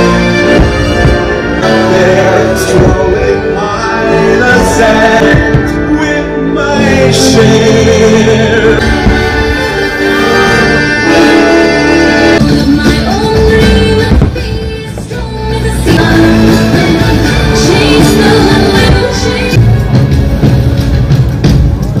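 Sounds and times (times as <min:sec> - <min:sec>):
people singing: 0:00.0 - 0:19.7
instrumental music: 0:00.0 - 0:22.0.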